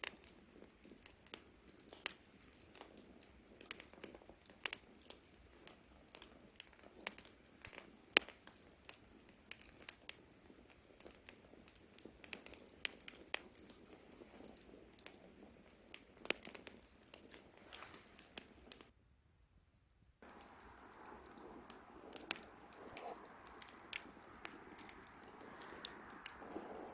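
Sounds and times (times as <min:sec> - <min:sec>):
campfire crackling: 0:00.0 - 0:18.9, 0:20.2 - 0:26.9
faint steady hiss: 0:00.0 - 0:19.0, 0:19.8 - 0:26.9.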